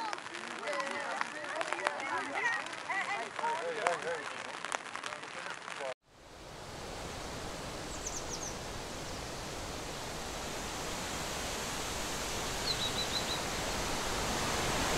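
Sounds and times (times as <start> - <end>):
rushing water: 0.0 - 14.9.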